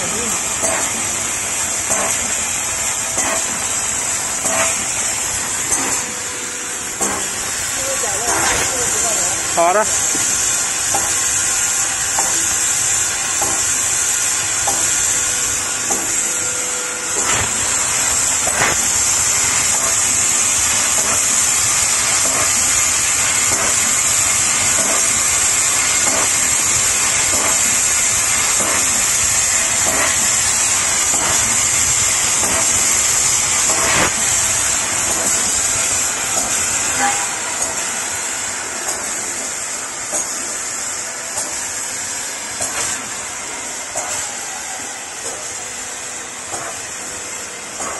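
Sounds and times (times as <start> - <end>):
high-pitched hiss of gas: 0.0 - 47.9.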